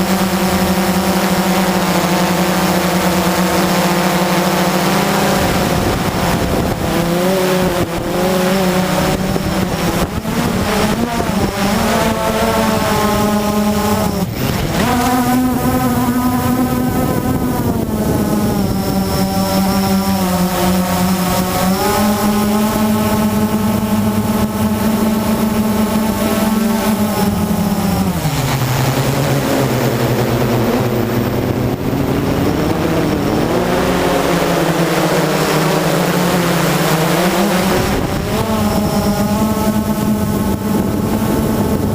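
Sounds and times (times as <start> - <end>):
quadcopter motors buzzing: 0.0 - 41.9
wind noise: 0.0 - 41.9.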